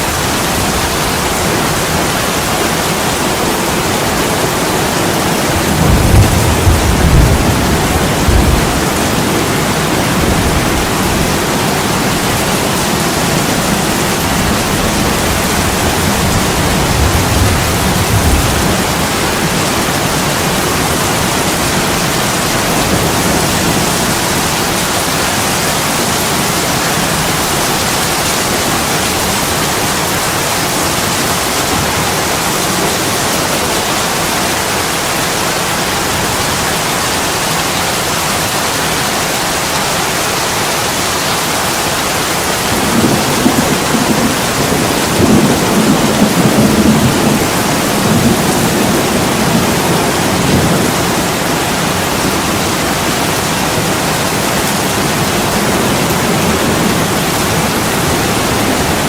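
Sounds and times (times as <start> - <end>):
heavy rain on window glass: 0.0 - 59.0
thunder rumbling: 0.1 - 33.4, 42.6 - 59.0.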